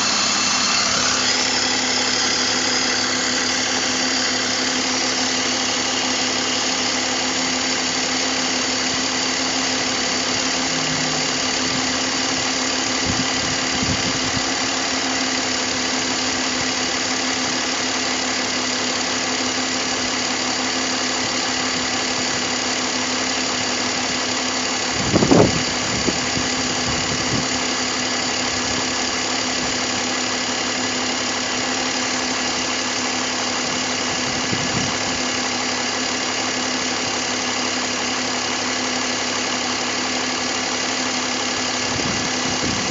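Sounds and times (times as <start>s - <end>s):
car engine idling: 0.0s - 42.9s
engine knock: 0.0s - 42.9s.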